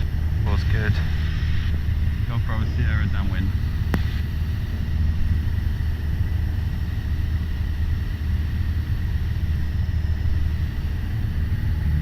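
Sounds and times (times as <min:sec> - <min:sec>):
airplane engine droning in cockpit: 0:00.0 - 0:12.0.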